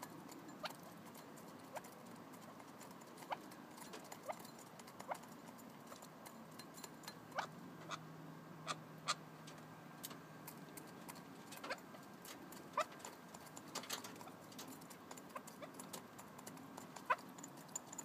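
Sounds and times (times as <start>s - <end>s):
beaks clicking on a bowl: 0.0s - 8.0s, 10.4s - 18.0s.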